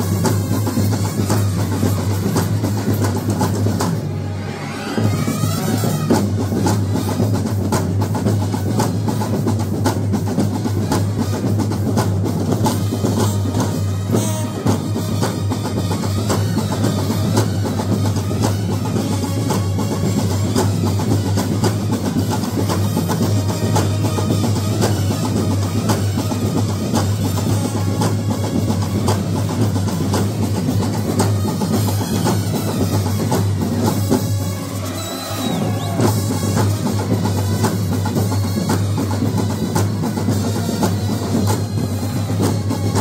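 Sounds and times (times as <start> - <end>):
snare and bass drums: 0.0 - 4.2, 5.0 - 43.0
brass bands playing: 0.0 - 43.0.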